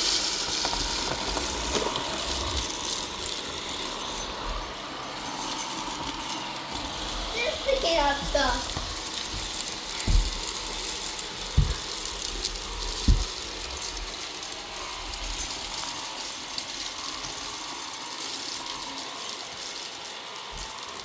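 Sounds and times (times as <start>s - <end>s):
robot vacuum rattling rice: 0.0s - 21.0s.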